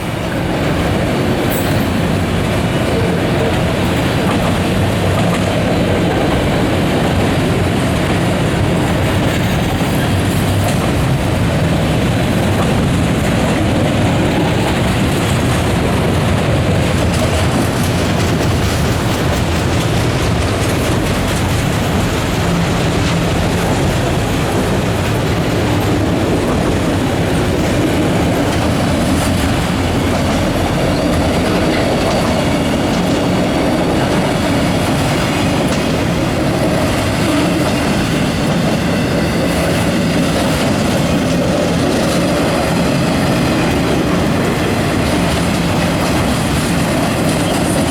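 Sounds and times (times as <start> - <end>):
freight train cars rolling: 0.0 - 47.9
wheels clicking over rail joints: 0.0 - 47.9.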